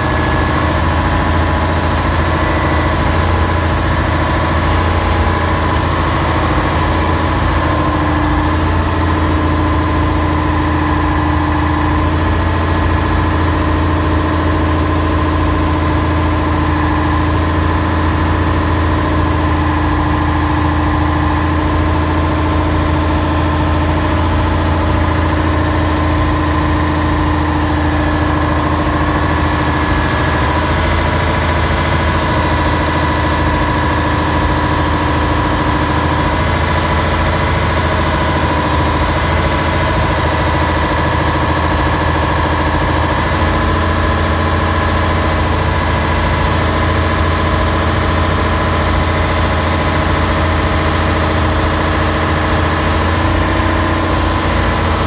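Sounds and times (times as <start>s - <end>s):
ferry engine humming: 0.0s - 55.0s.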